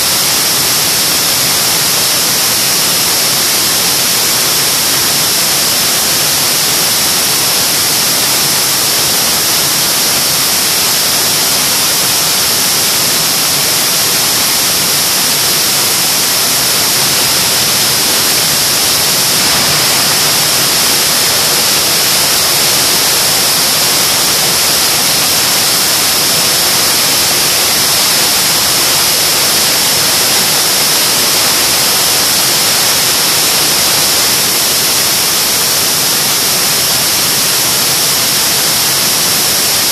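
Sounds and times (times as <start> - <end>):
jet engine running: 0.0 - 39.9.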